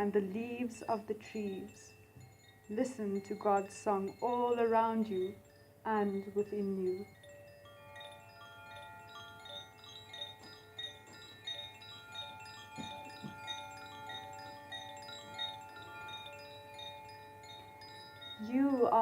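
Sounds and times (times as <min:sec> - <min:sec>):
chimes ringing: 0:01.4 - 0:19.0.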